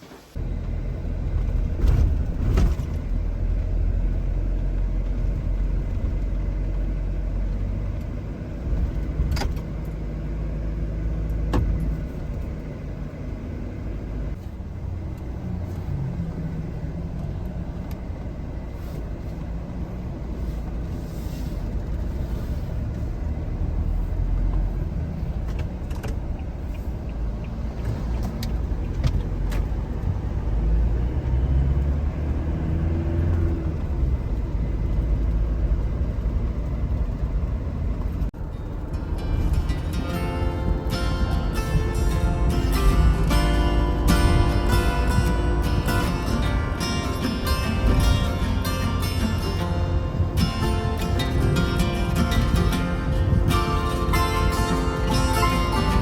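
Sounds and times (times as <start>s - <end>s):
engine and road noise rumble: 0.0s - 56.0s.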